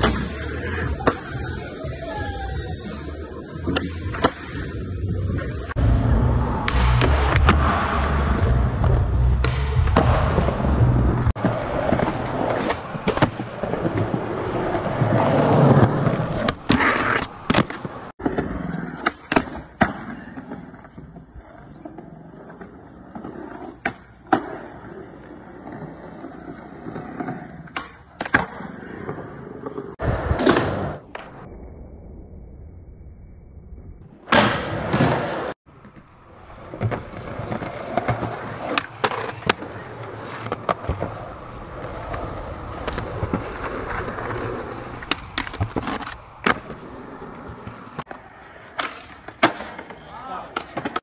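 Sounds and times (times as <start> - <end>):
skateboard wheels rolling on concrete: 0.0 - 32.7, 33.7 - 51.0.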